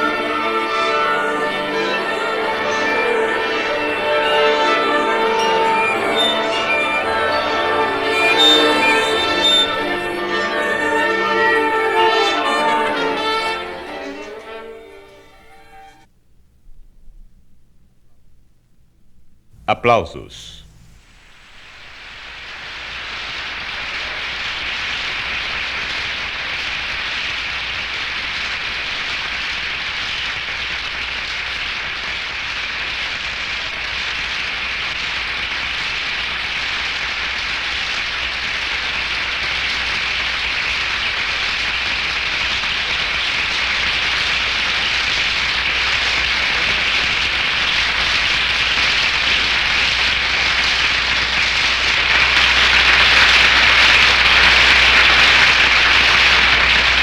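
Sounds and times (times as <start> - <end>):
audience applauding: 0.0 - 15.9, 19.6 - 57.0.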